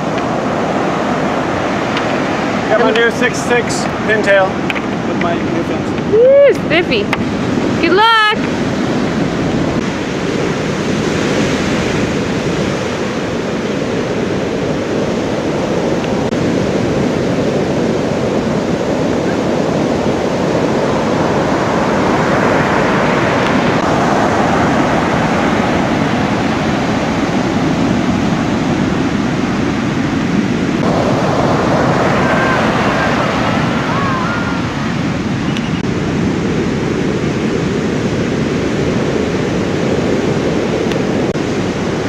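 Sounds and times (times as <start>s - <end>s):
heavy surf breaking: 0.0s - 42.0s.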